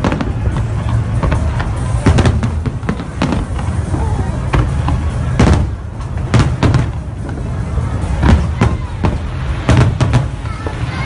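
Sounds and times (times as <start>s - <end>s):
fireworks bangs: 0.0s - 11.0s
music playing: 0.0s - 11.0s.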